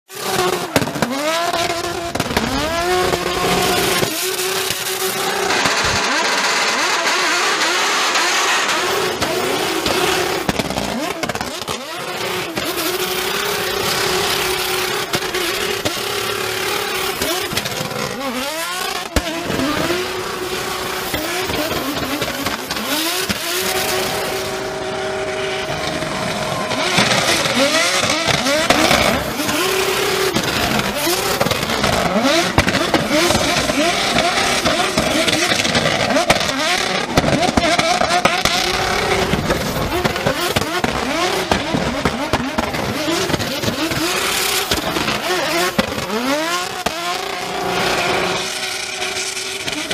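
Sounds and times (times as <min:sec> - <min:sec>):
car engine revving hard: 0:00.1 - 0:49.9.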